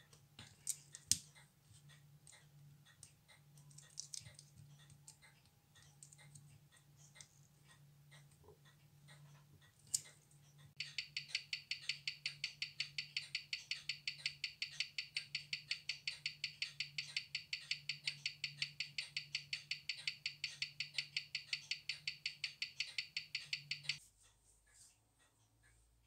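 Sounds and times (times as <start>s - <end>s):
watch ticking: 1.2s - 24.0s.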